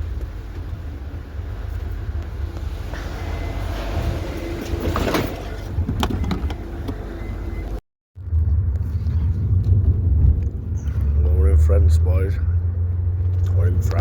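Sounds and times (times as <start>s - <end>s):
vehicle cabin rumble: 0.0s - 14.0s.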